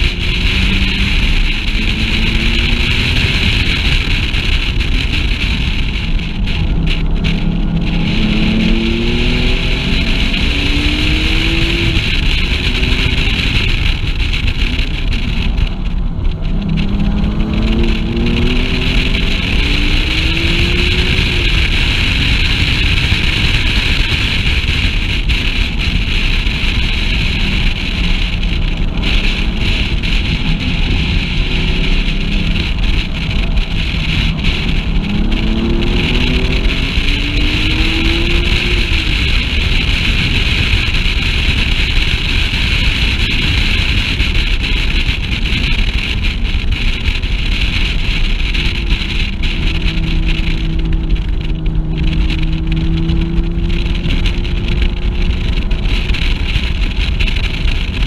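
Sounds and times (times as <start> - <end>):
road noise: 0.0 - 58.0
sports car engine accelerating: 0.0 - 58.0
wind buffeting microphone: 0.0 - 58.0.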